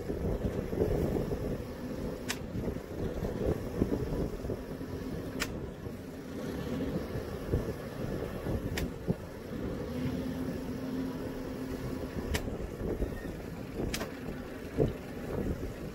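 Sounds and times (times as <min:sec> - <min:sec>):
boat diesel engine rumbling: 0:00.0 - 0:15.9.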